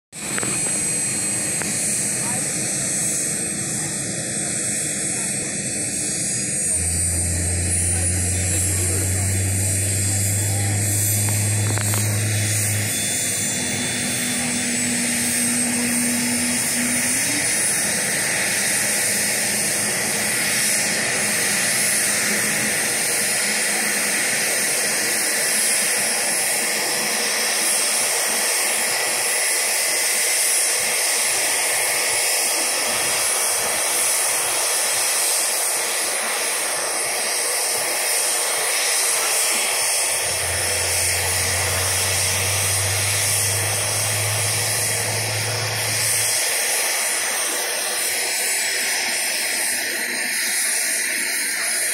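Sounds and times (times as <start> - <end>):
helicopter turbine and rotor: 0.1 - 51.9.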